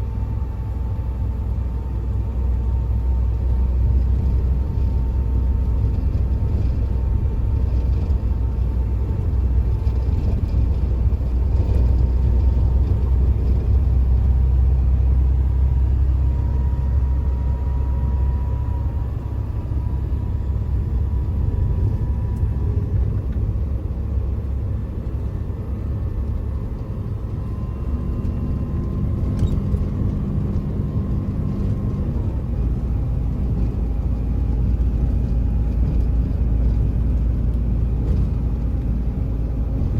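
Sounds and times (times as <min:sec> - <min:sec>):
truck engine rumble: 0:00.0 - 0:39.9.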